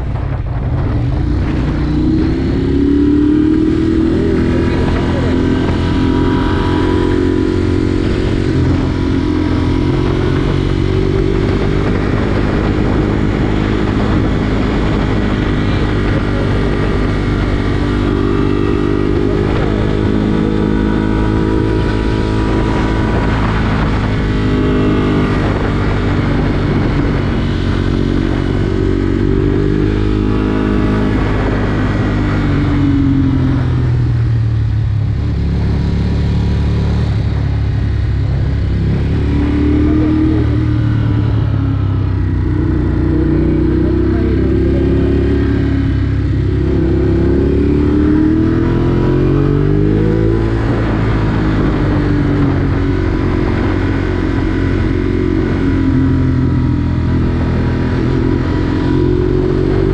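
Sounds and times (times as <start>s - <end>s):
motorcycle engine revving: 0.0s - 59.9s
road and wind noise: 0.0s - 59.9s.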